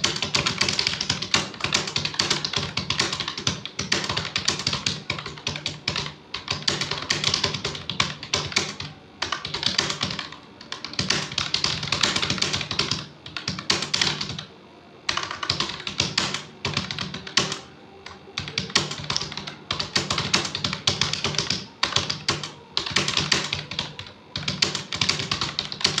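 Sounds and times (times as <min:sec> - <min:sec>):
keyboard typing: 0:00.0 - 0:14.5, 0:15.1 - 0:26.0.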